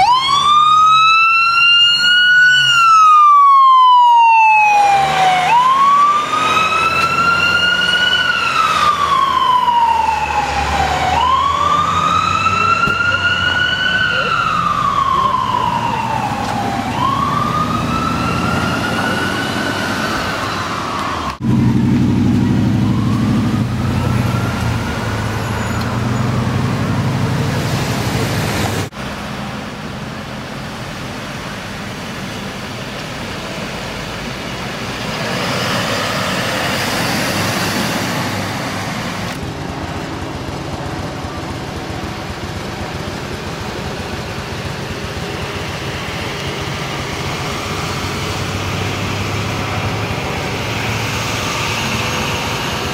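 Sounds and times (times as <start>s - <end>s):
emergency siren wailing: 0.0s - 28.2s, 35.3s - 52.9s
traffic noise: 0.0s - 52.9s
heavy vehicle engine rumbling: 2.0s - 52.9s.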